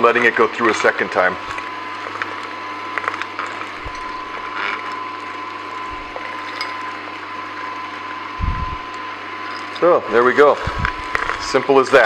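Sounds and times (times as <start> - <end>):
juicer machine hum: 0.0 - 12.0.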